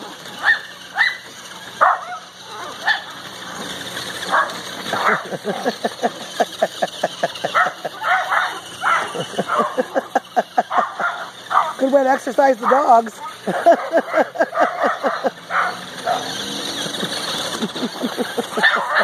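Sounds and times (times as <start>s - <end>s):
small dogs barking and yipping: 0.0s - 19.0s.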